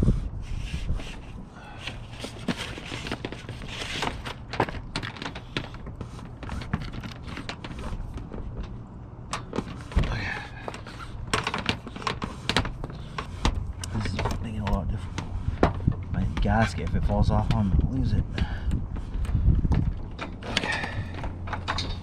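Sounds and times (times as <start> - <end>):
wires rustling: 0.0 - 22.0.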